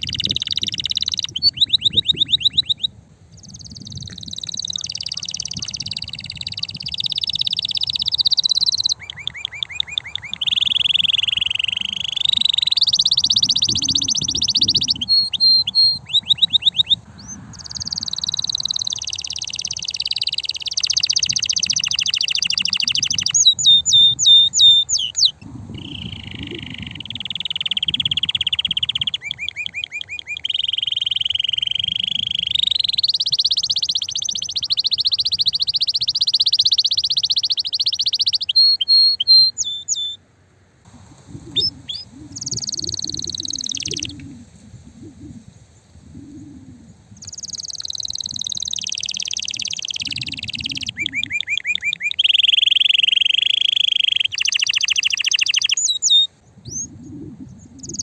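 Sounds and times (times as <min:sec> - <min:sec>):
canary singing trills: 0:00.0 - 0:40.2, 0:40.9 - 0:58.0.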